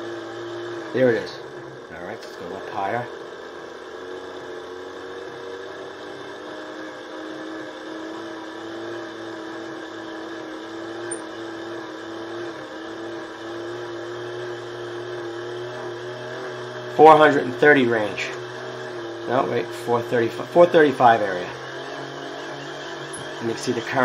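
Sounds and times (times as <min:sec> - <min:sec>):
hand-cranked generator whirring: 0:00.0 - 0:24.0.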